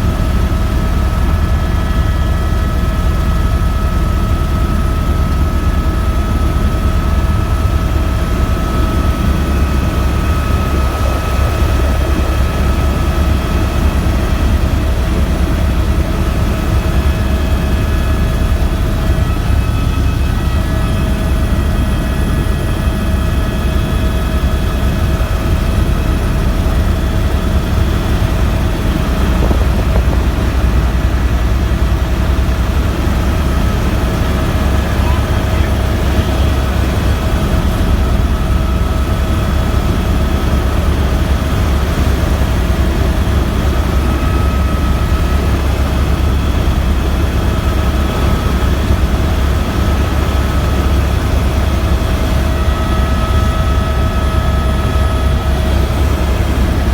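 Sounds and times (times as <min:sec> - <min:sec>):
helicopter rotor drone: 0:00.0 - 0:56.9
turbine whine: 0:00.0 - 0:56.9.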